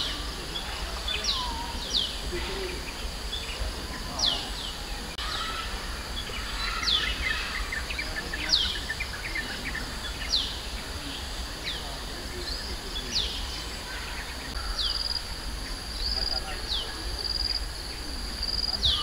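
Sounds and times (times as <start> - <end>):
high insect hiss: 0.0 - 19.0.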